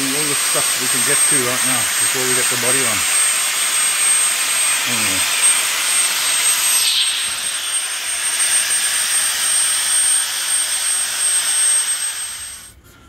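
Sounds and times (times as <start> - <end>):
workshop tool hiss and whine: 0.0 - 12.9.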